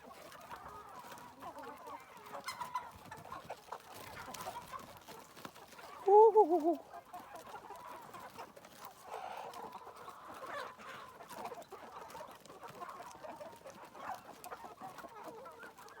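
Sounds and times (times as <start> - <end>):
chickens clucking and chirping: 0.0 - 16.0.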